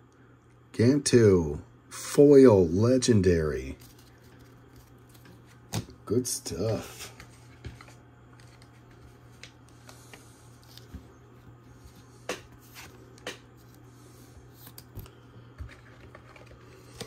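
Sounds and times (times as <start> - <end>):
faint steady low hum: 0.0 - 17.0.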